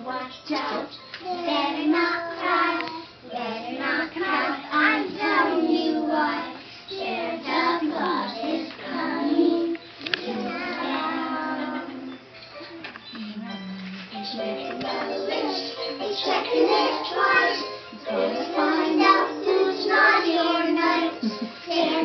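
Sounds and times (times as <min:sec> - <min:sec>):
young children singing: 0:00.0 - 0:12.2, 0:14.3 - 0:22.0.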